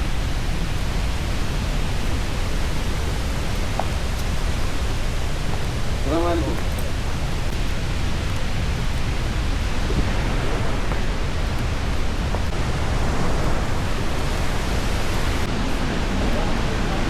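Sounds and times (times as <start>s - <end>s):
falling water roaring: 0.0s - 17.0s.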